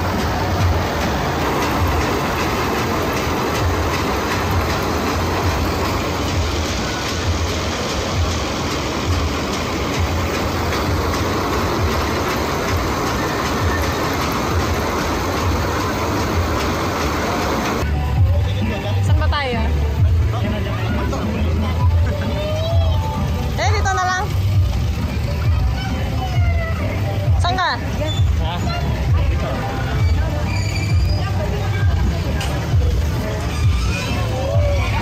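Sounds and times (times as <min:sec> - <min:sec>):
ride cars clattering on track: 0:00.0 - 0:17.9, 0:20.6 - 0:35.0.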